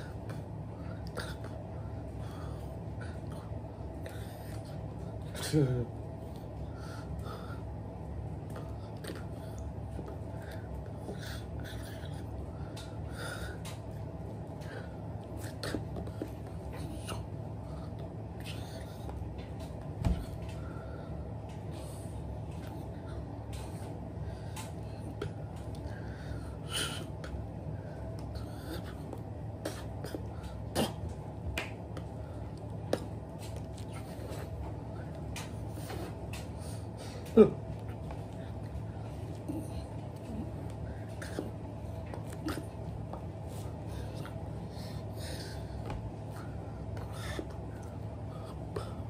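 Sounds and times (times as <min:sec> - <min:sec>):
low room hum: 0:00.0 - 0:49.0.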